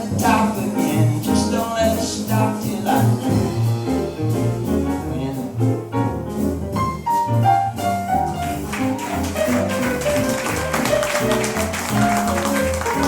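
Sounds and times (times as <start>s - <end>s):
jazz melodic phrase: 0.0s - 13.0s
piano: 0.0s - 13.0s
walking bass line: 0.0s - 13.0s.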